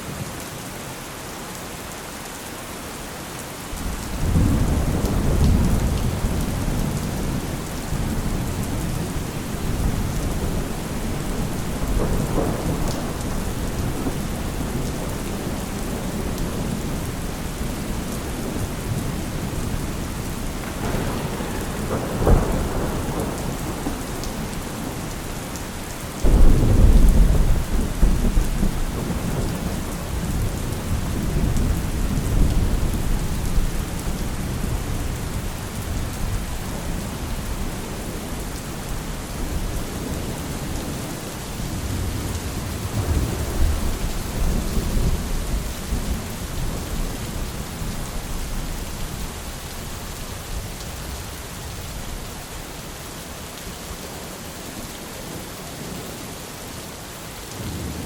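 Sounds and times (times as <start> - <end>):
steady rain: 0.0 - 58.0
thunder rumbling: 3.8 - 40.9, 41.6 - 52.1.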